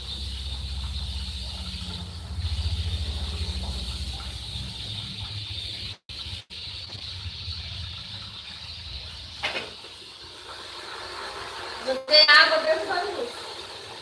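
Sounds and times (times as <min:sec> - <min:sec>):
sausage sizzling in a pot: 0:00.0 - 0:14.0.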